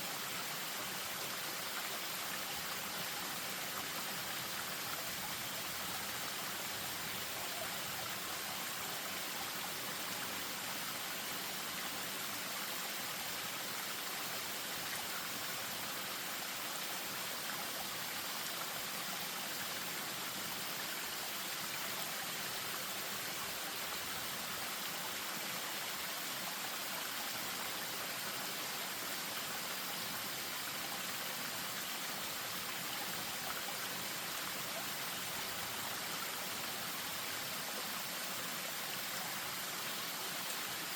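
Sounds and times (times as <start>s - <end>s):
stream over small waterfall: 0.0s - 40.9s.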